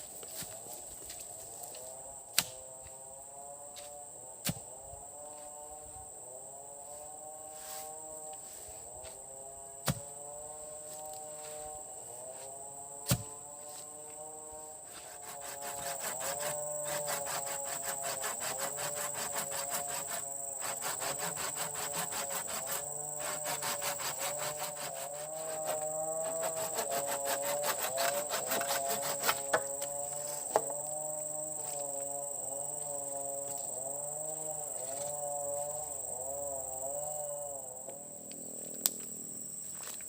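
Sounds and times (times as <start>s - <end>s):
high-pitched insect drone: 4.8s - 40.0s.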